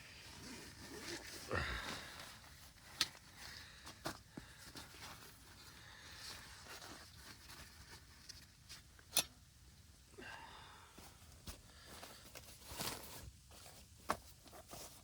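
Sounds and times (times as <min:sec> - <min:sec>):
rustling camping gear: 0:00.0 - 0:15.0.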